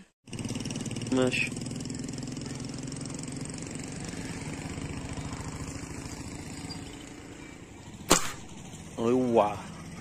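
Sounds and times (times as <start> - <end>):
engine idling: 0.3 - 10.0.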